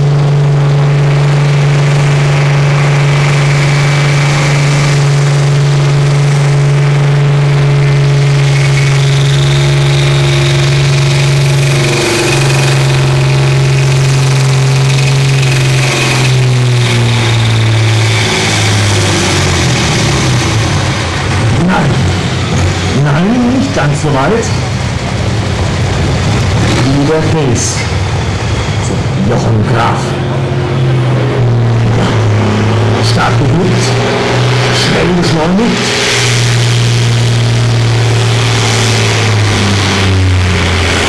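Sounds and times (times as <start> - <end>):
tractor diesel engine under load: 0.0 - 41.0.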